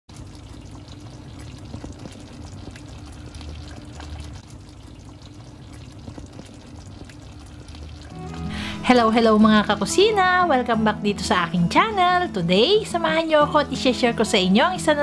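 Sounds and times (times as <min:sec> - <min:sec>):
sauce simmering and bubbling: 0:00.1 - 0:14.7.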